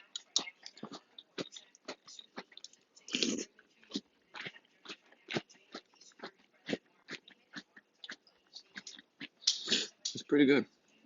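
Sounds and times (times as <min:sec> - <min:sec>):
chewing crunchy cereal: 0:00.0 - 0:10.3.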